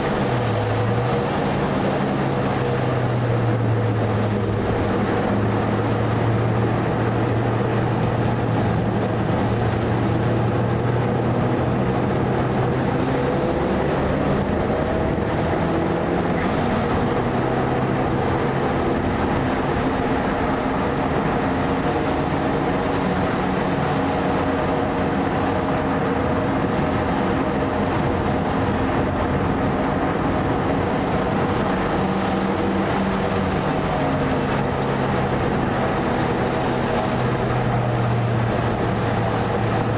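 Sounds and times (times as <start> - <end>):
car engine running at speed: 0.0 - 39.9
road and wet tyre noise: 0.0 - 39.9.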